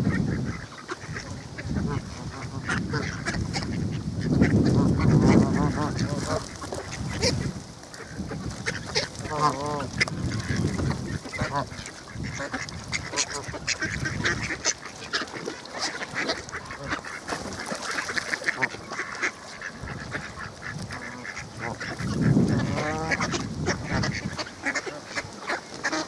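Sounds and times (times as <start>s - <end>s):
ducks quacking: 0.0s - 26.0s
geese honking: 0.0s - 26.0s.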